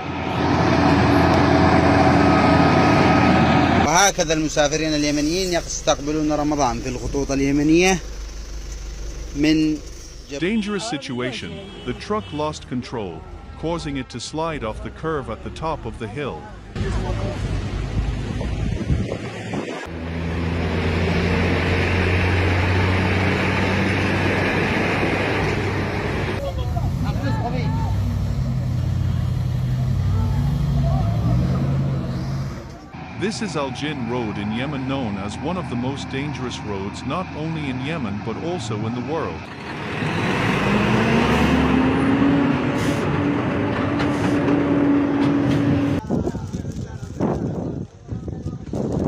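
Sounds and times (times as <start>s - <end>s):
truck engine under load: 0.0s - 10.6s, 19.8s - 49.0s
road noise rumble: 0.0s - 49.0s.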